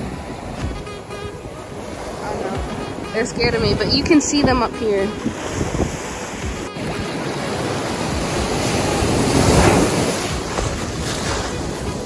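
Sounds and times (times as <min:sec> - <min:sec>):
ocean surf on sandy beach: 0:00.0 - 0:12.0.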